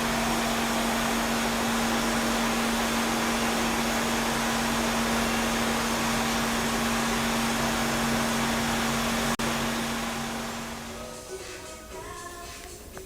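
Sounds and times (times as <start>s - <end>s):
machine motor humming: 0.0s - 11.7s.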